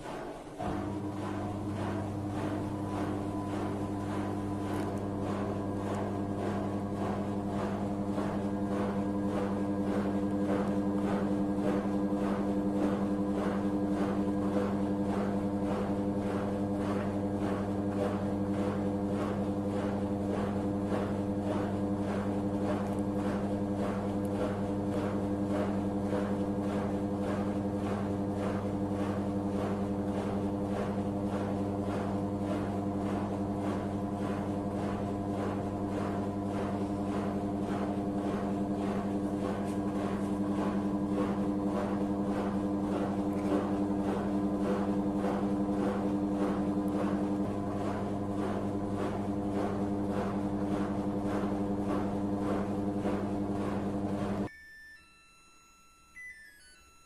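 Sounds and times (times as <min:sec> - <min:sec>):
washing machine running: 0:00.0 - 0:54.5.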